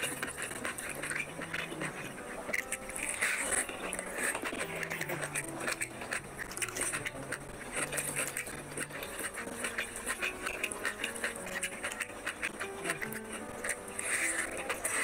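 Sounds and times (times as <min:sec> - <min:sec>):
chewing and mouth sounds: 0:00.0 - 0:15.0
hand squeezing wet rice: 0:00.0 - 0:15.0
soft background music: 0:00.0 - 0:15.0.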